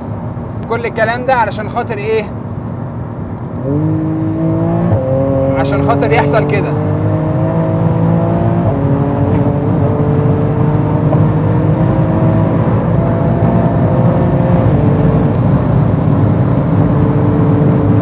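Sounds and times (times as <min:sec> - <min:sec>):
car engine accelerating: 0:02.9 - 0:18.0.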